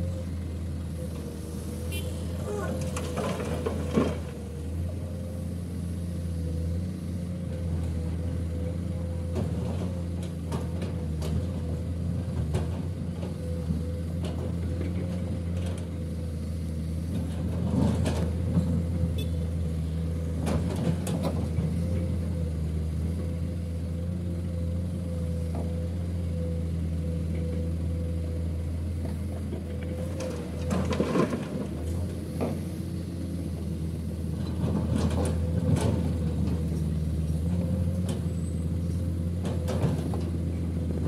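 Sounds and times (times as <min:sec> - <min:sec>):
excavator diesel engine drone: 0:00.0 - 0:41.0.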